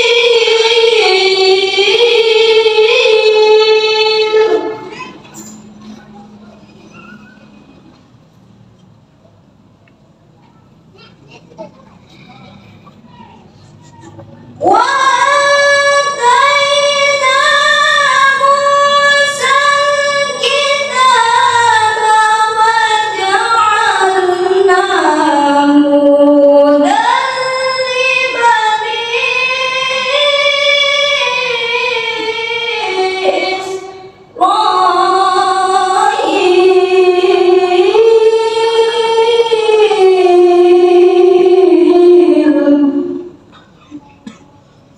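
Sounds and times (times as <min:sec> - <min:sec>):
girl reciting melodically: 0:00.0 - 0:07.5, 0:10.4 - 0:44.4.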